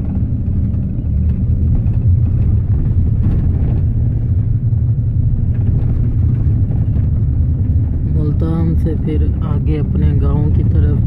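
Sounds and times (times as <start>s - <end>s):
bus engine and road noise rumble: 0.0s - 11.0s.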